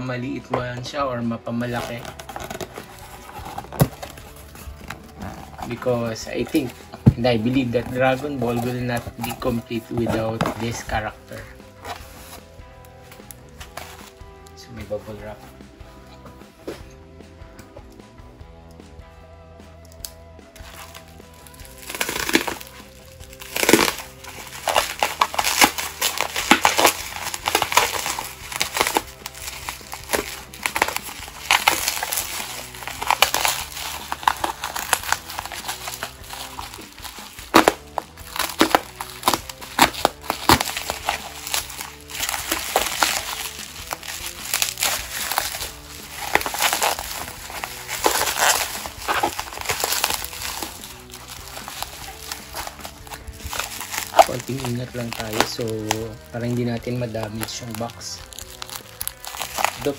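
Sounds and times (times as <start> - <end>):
bubble wrap crackling and snapping: 1.5 - 14.6, 19.8 - 59.9.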